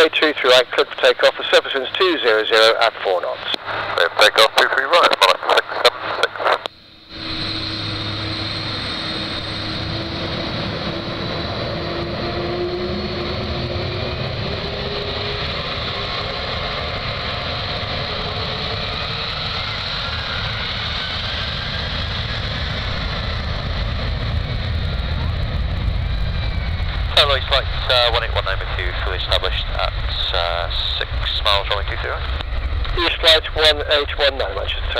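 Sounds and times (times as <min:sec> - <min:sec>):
jet engines roaring and whining: 0:00.0 - 0:34.9.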